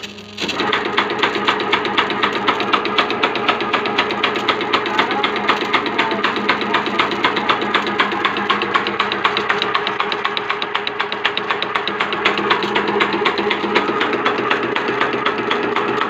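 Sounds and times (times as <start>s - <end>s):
sewing machine clicking: 0.0s - 16.0s.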